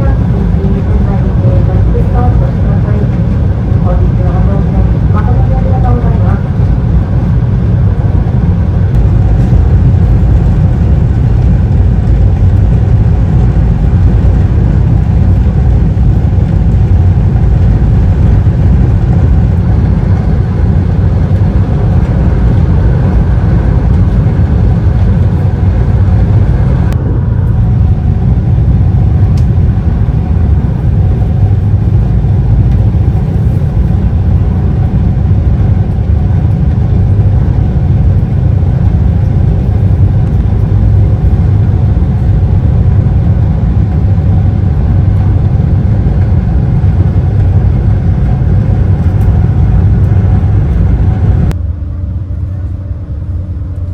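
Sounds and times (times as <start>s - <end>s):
boat engines low rumble: 0.0s - 53.9s.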